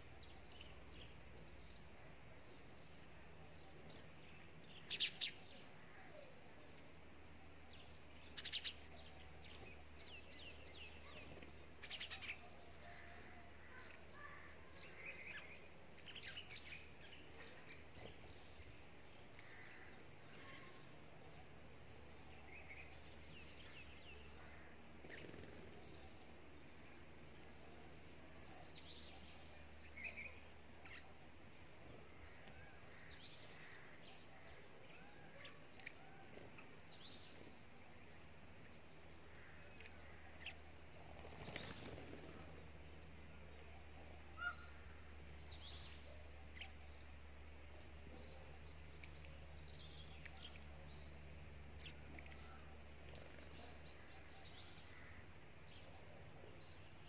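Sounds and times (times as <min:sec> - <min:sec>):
faint low hum: 0:00.0 - 0:57.0
small birds chirping: 0:00.0 - 0:57.0.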